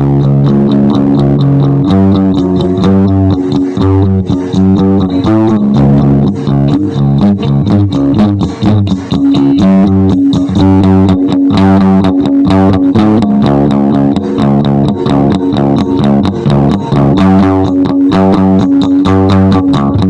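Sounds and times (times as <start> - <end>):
bass guitar: 0.0 - 20.0
plucked guitar: 0.0 - 20.0.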